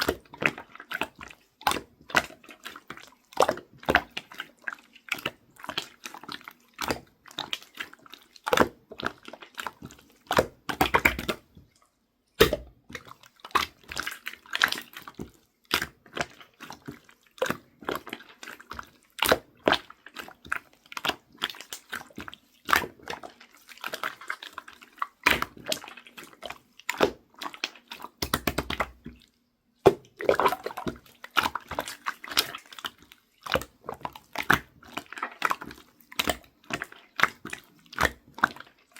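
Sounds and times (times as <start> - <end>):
slime squelching: 0.0 - 38.9.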